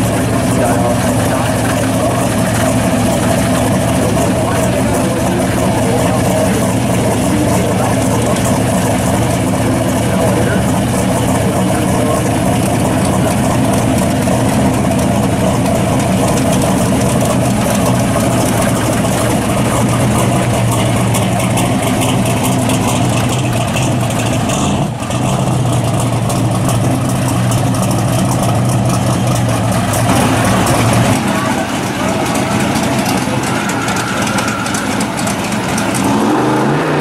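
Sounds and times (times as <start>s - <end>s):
car engine idling loud: 0.0s - 37.0s.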